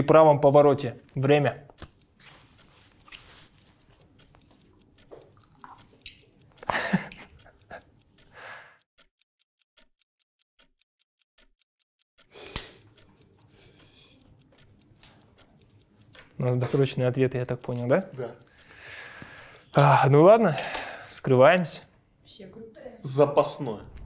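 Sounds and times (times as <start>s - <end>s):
clock ticking: 0.1s - 21.9s.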